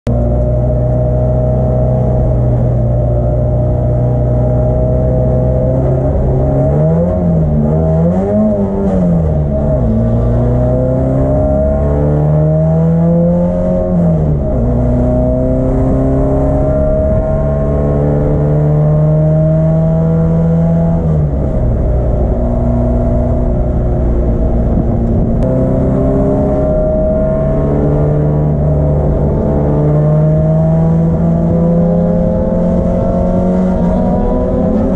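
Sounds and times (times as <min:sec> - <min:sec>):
race car engine revving: 0:00.1 - 0:34.9.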